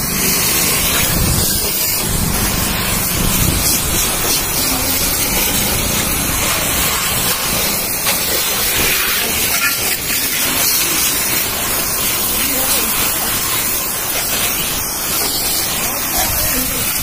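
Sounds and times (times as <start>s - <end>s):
high-pressure water spray hissing: 0.0s - 17.0s
water splashing: 0.0s - 17.0s.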